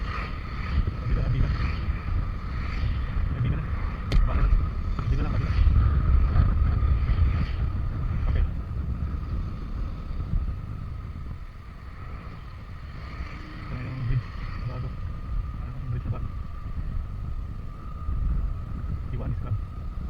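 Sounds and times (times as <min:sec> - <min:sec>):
scooter engine whine: 0:00.0 - 0:20.0
wind and road noise: 0:00.0 - 0:20.0.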